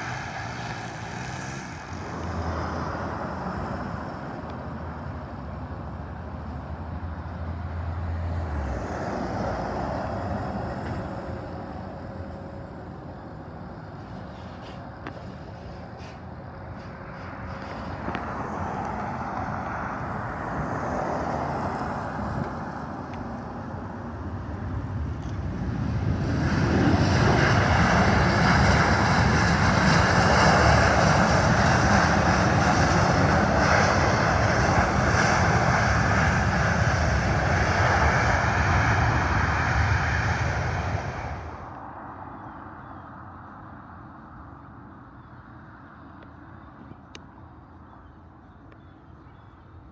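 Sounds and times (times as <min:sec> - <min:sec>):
airplane engine roar: 0:00.0 - 0:49.9.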